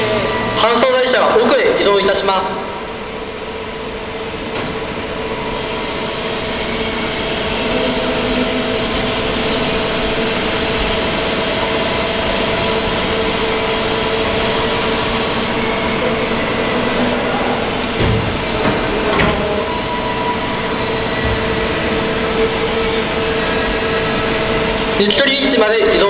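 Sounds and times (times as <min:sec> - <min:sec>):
transport cart mechanical hum: 0:02.7 - 0:26.0.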